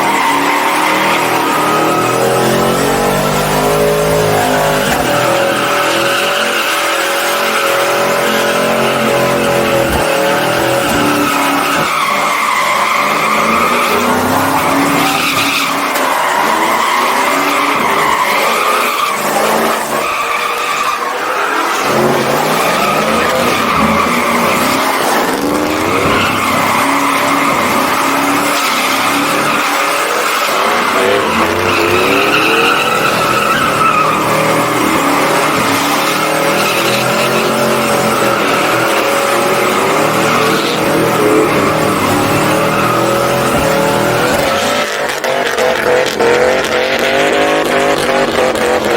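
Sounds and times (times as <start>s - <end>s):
tires squealing: 0.0s - 48.9s
truck engine at high revs: 0.0s - 48.9s.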